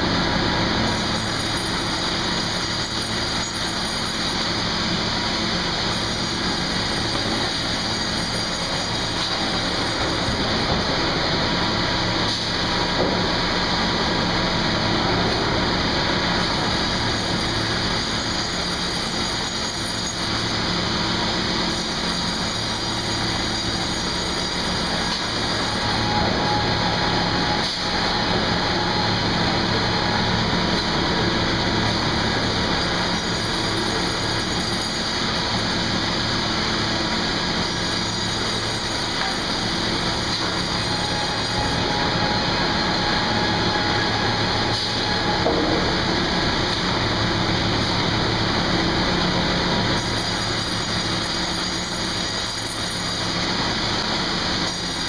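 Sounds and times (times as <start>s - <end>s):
sawmill machinery din: 0.0s - 55.0s.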